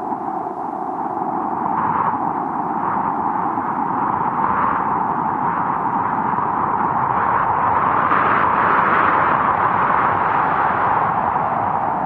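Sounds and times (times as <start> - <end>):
wind blowing hard: 0.0 - 12.0.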